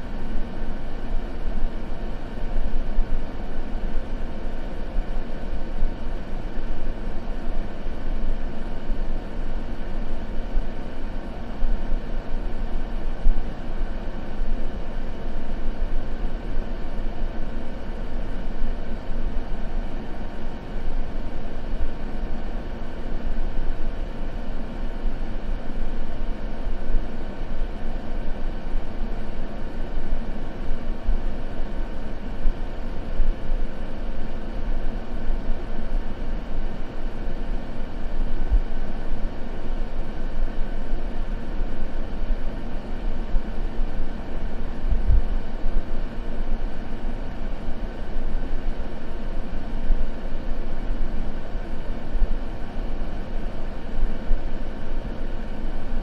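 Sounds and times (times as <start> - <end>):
faint steady hum: 0.0 - 56.0
white noise hiss and rumble: 0.0 - 56.0.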